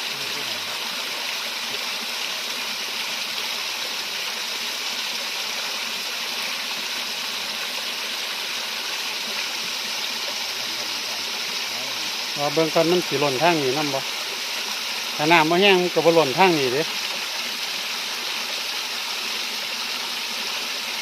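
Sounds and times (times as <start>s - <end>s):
water pouring down waterfall: 0.0s - 21.0s.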